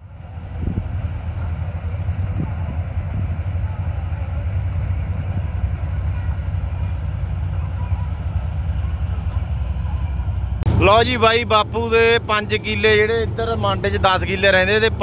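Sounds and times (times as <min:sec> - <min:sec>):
harvester engine rumbling: 0:00.0 - 0:15.0.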